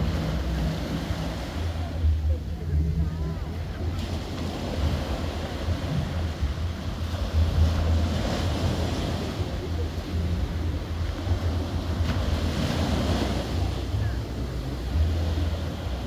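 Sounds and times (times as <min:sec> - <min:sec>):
sea waves washing onto shore: 0:00.0 - 0:16.0
wind buffeting microphone: 0:00.0 - 0:16.0.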